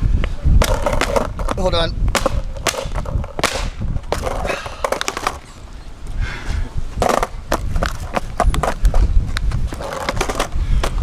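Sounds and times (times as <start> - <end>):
skateboard clacking on asphalt: 0.6 - 5.5, 7.0 - 11.0.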